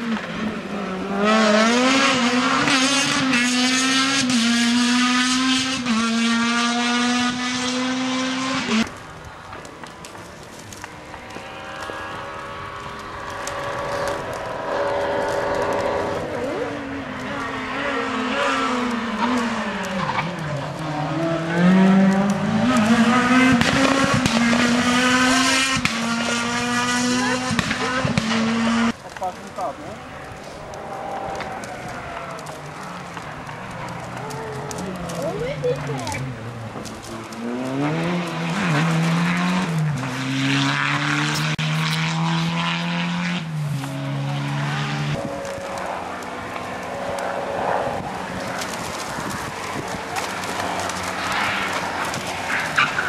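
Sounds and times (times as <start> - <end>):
rally car engine revving: 0.0 - 9.0, 9.6 - 53.0.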